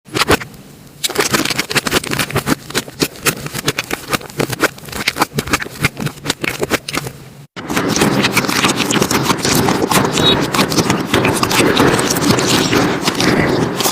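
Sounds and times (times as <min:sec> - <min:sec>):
slime crackling: 0:00.1 - 0:13.9.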